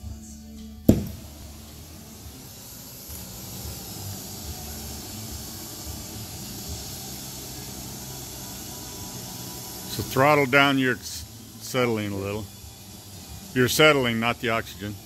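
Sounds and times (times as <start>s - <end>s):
gas torch hissing: 0.8s - 15.0s.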